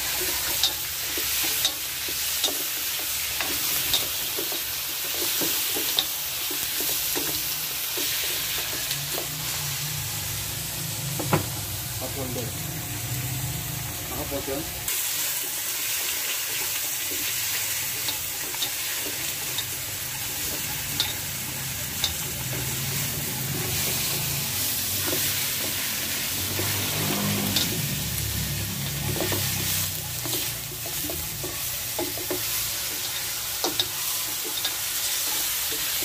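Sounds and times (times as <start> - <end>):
pork sizzling in a wok: 0.0 - 36.0.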